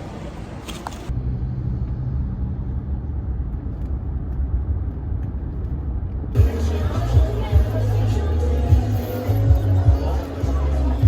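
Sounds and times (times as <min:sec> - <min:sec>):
muffled low rumble: 0:01.1 - 0:11.0.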